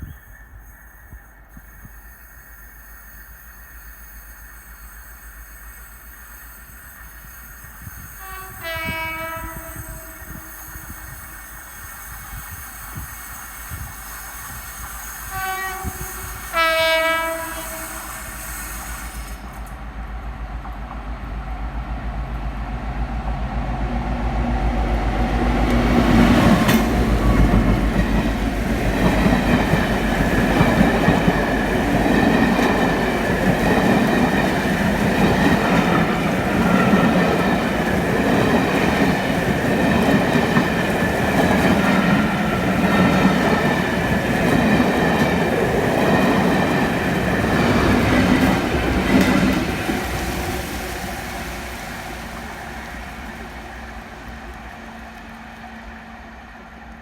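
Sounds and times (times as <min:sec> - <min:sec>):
tram running on track: 0:00.0 - 0:57.0.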